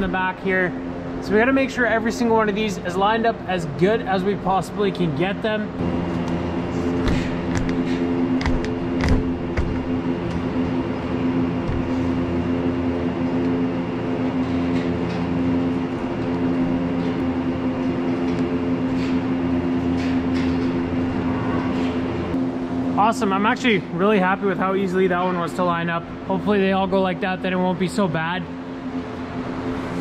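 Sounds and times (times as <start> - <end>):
ventilation fan motors humming: 0.0 - 30.0.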